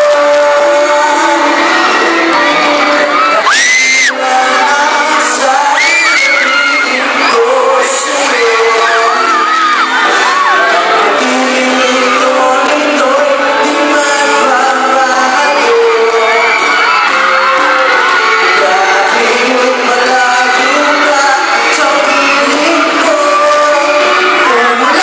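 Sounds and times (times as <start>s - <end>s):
fans screaming and whooping: 0.0s - 25.0s
live pop song: 0.0s - 25.0s.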